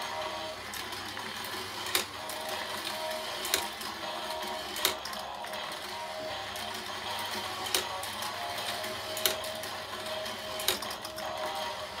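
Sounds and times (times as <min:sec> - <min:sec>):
toy track motorized lift whirring: 0:00.0 - 0:12.0.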